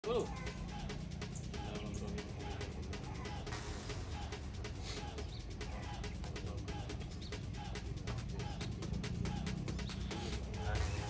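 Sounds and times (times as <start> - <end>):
music with fast beat: 0.0 - 11.0.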